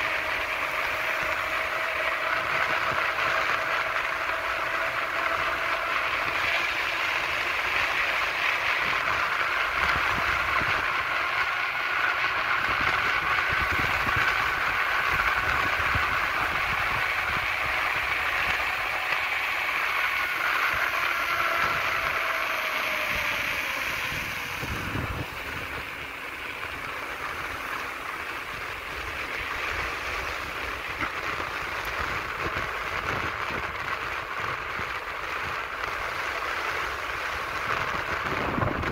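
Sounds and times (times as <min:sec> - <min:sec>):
faint steady whine: 0:00.0 - 0:38.9
wheels rolling on asphalt: 0:00.0 - 0:38.9
wind rushing over microphone: 0:00.0 - 0:38.9.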